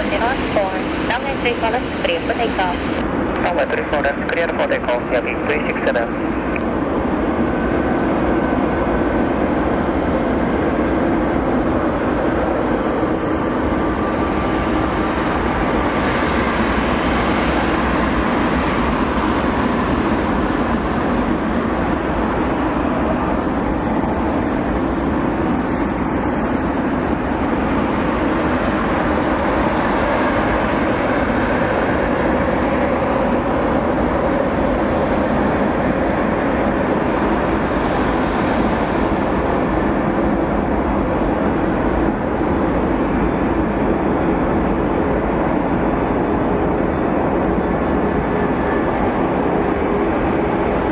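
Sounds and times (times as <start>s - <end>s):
jet engines at takeoff thrust: 0.0s - 50.9s.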